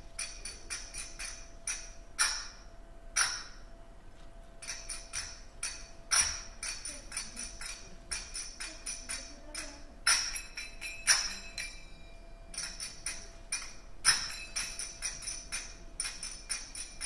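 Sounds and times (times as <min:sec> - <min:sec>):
finger cymbals struck rhythmically: 0:00.0 - 0:03.7, 0:04.6 - 0:17.0.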